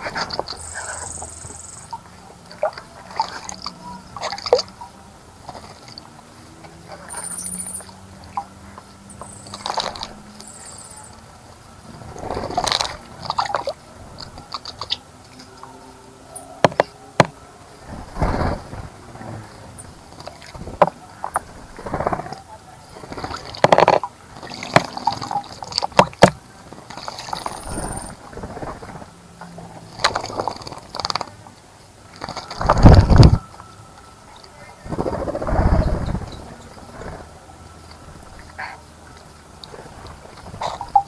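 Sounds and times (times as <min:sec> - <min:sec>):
birds splashing in water: 0:00.0 - 0:41.0.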